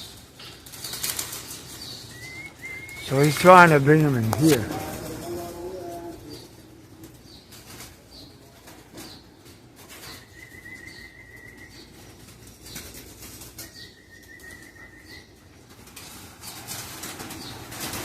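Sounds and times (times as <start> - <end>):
pigeons flapping wings: 0.0 - 18.0.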